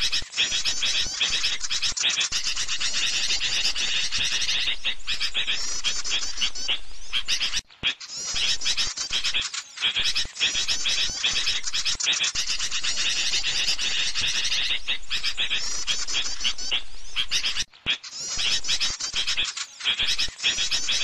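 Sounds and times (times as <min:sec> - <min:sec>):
small birds chirping and twittering: 0:00.0 - 0:21.0.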